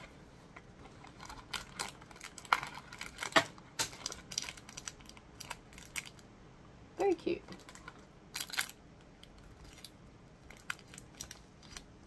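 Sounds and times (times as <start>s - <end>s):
plastic wrapper crinkling: 0.0s - 6.3s, 7.5s - 12.0s.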